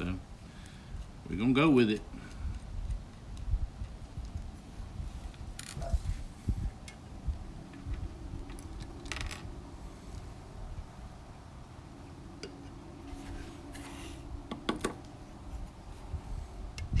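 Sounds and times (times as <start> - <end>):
wind rumble on microphone: 2.1 - 17.0.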